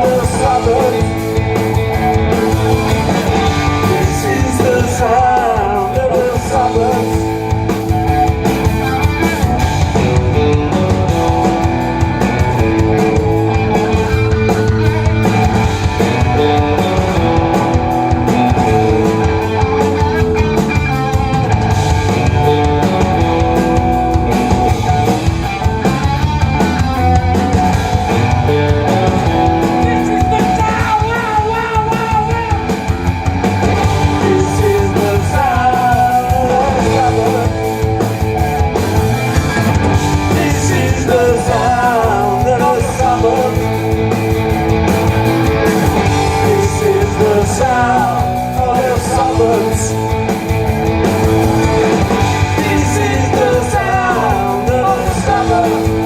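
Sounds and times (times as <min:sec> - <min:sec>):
bass guitar: 0:00.0 - 0:56.0
drums on a driving beat: 0:00.0 - 0:56.0
electric guitars: 0:00.0 - 0:56.0.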